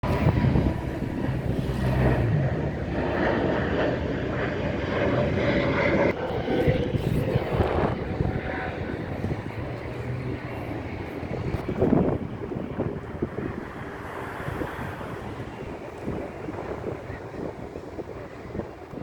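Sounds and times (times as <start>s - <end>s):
jet engines roaring at takeoff: 0.0s - 19.0s.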